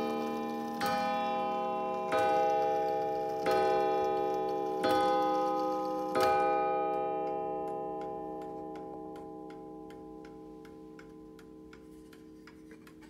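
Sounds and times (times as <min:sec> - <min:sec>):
clock ticking: 0:00.0 - 0:13.0
mantel clock striking: 0:00.0 - 0:13.0.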